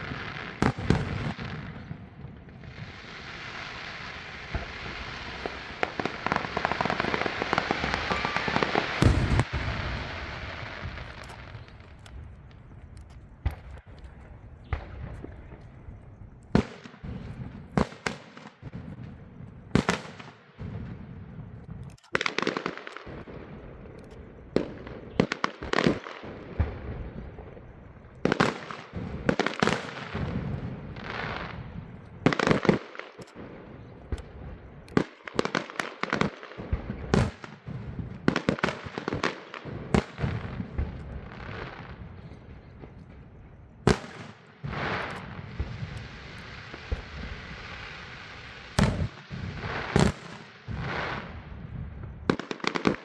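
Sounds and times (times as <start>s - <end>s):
fireworks bangs: 0.0s - 53.0s
fireworks crackling: 0.0s - 53.0s.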